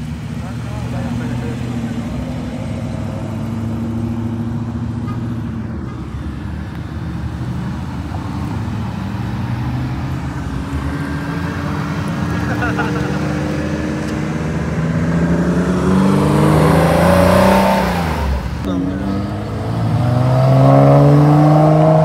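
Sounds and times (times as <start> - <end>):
car engines rumbling: 0.0 - 22.0.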